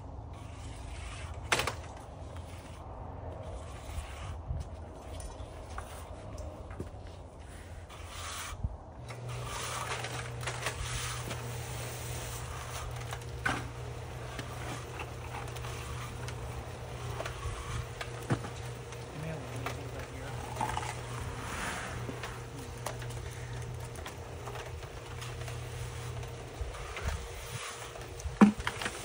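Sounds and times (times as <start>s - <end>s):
steady low hum: 0.0s - 29.0s
scraping and rubbing: 0.3s - 29.0s.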